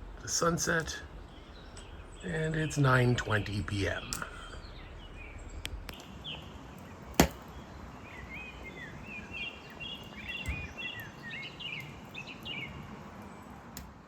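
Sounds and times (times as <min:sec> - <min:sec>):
low outdoor noise: 0:00.0 - 0:14.0
small birds chirping: 0:00.0 - 0:14.0
wood fire popping: 0:00.0 - 0:14.0.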